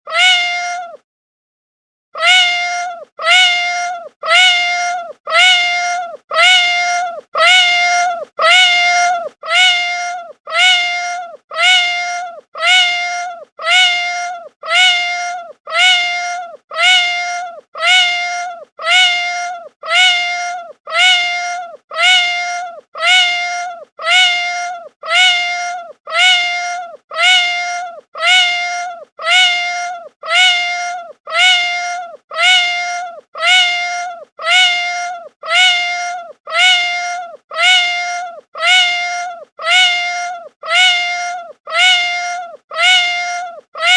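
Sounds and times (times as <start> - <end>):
cat meowing: 0.1 - 1.0, 2.2 - 43.9.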